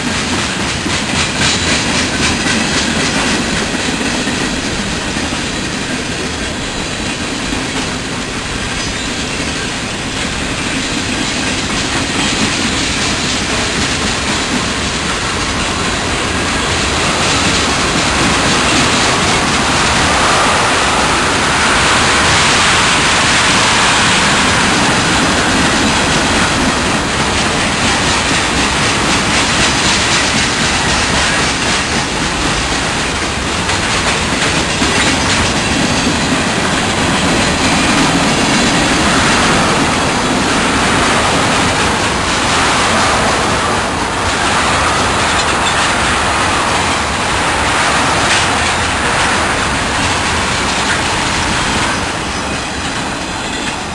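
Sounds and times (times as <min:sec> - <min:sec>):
train wheels on track: 0:00.0 - 0:53.9.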